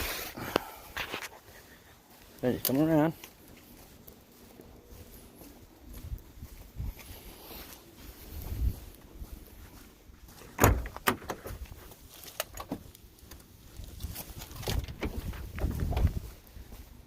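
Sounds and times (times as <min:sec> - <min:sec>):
handling rustle: 0:00.9 - 0:17.0.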